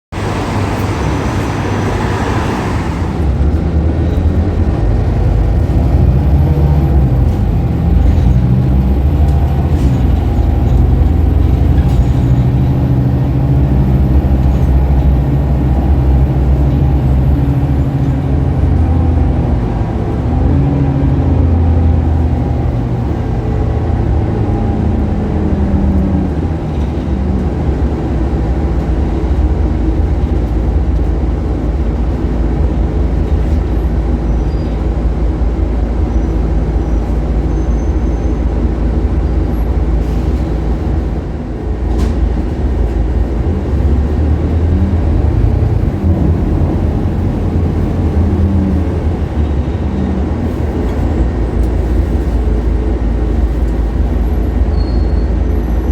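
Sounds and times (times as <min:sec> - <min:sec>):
bus diesel engine droning: 0:00.0 - 0:55.9.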